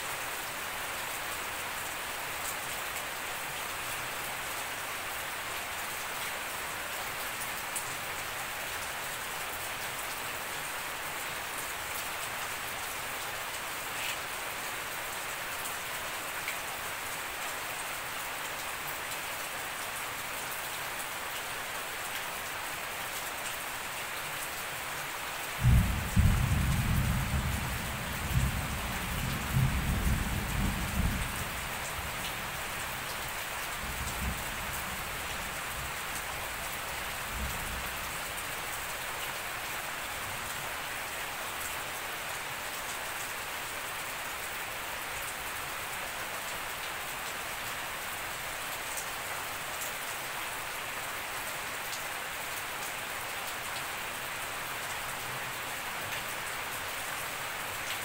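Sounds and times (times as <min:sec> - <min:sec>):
rain on grass and foliage: 0:00.0 - 0:58.0.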